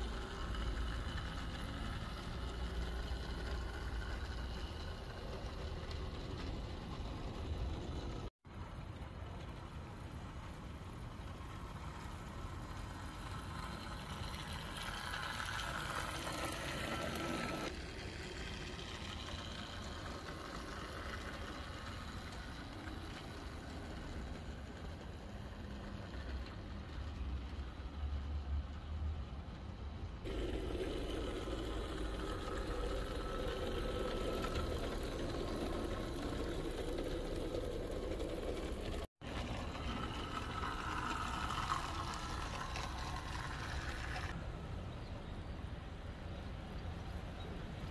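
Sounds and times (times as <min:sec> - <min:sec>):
model locomotive humming: 0:00.0 - 0:44.4.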